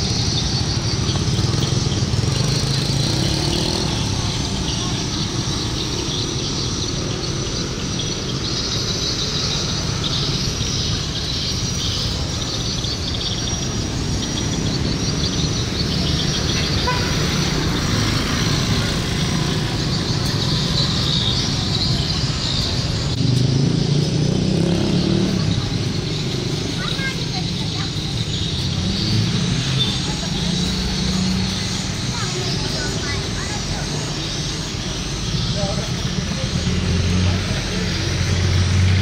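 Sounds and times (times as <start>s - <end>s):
high chirping chorus: 0.0s - 39.0s
motorbike engines: 0.0s - 39.0s
passing vehicles rumbling: 0.0s - 39.0s.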